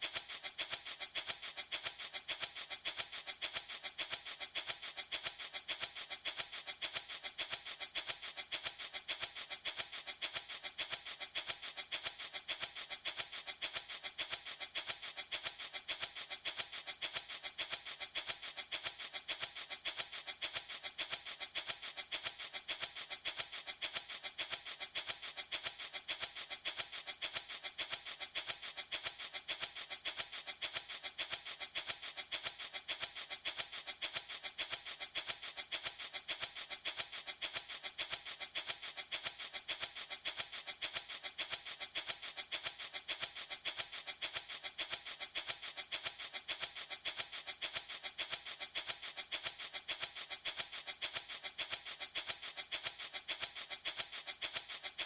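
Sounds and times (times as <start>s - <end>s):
baby rattle shaken: 0.0s - 55.0s.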